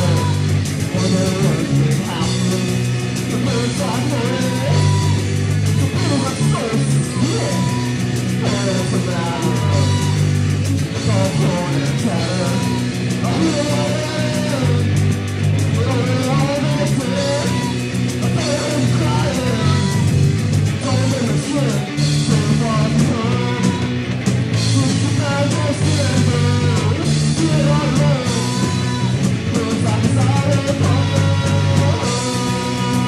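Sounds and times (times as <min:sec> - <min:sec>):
person singing: 0:00.0 - 0:15.0, 0:15.7 - 0:33.0
distorted electric guitar: 0:00.0 - 0:33.0
pounding drums with cymbals: 0:00.0 - 0:33.0.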